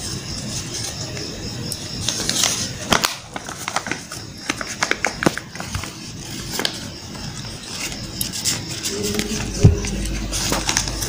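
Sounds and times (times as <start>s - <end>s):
paper crinkling and rustling: 2.0s - 11.0s.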